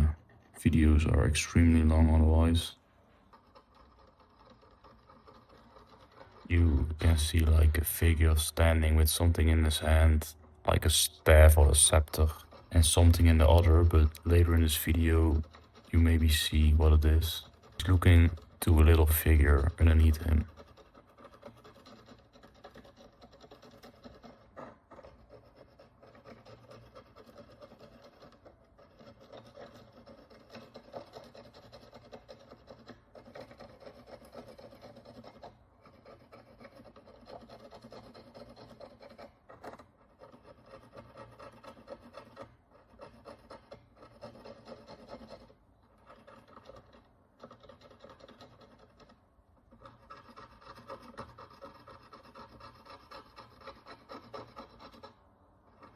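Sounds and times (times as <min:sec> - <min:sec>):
tool scraping metal coin: 0:00.0 - 0:55.9.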